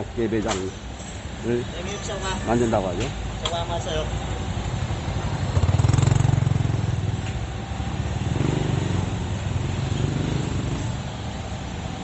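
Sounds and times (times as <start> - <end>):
motorbikes passing: 1.5 - 12.0.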